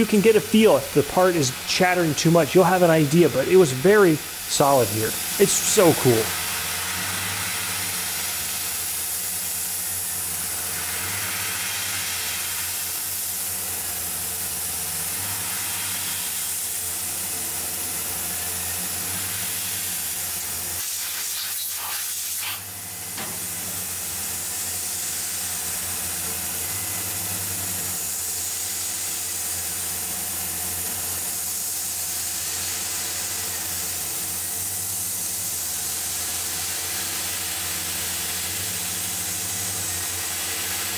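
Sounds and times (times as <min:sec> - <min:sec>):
coolant spray hiss: 0:00.0 - 0:40.9.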